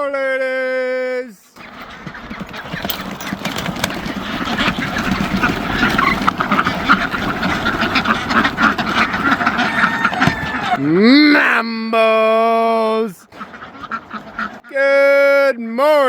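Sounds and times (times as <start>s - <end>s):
poultry calling: 0.1s - 15.1s
ducks quacking: 1.6s - 16.0s.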